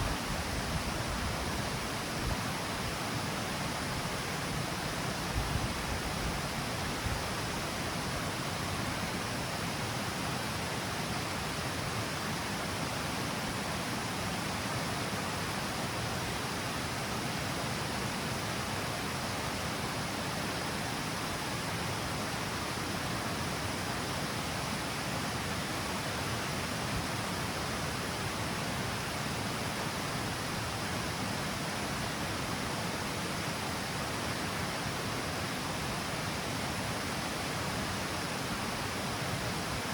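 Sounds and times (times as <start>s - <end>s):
water rushing over cascade steps: 0.0s - 39.9s.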